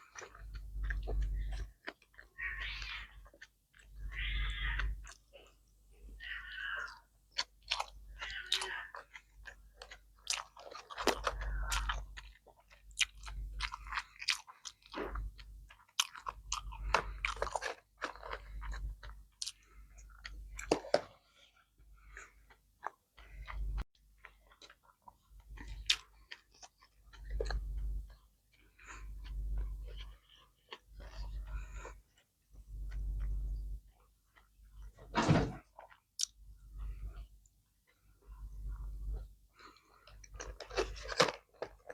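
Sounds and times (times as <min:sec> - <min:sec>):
person chewing crunchy food: 0:00.0 - 0:05.7, 0:06.8 - 0:41.9.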